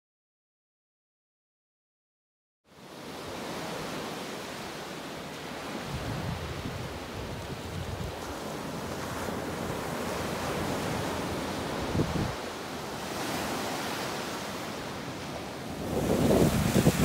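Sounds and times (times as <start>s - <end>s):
surf washing onto beach: 2.8s - 17.0s.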